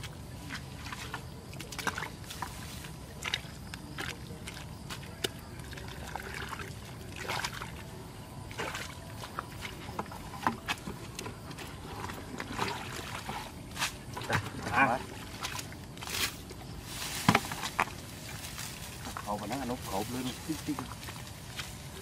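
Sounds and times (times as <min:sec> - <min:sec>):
bucket sloshing muddy water: 0:00.0 - 0:22.0
water splashing: 0:00.0 - 0:22.0.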